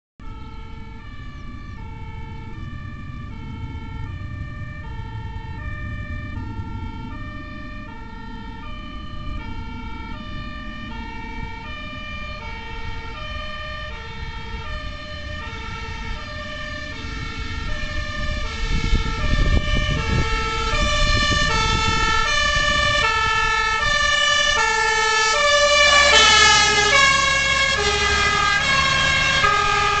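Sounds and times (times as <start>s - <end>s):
fire engine rumble: 0.2s - 30.0s
fire engine two-tone siren: 0.2s - 30.0s.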